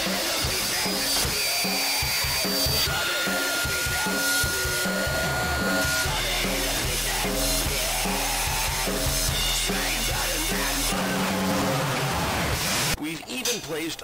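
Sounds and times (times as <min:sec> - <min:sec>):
electronic drums beating fast: 0:00.0 - 0:12.7
wall of distorted noise: 0:00.0 - 0:13.0
piercing feedback tone: 0:00.1 - 0:12.4.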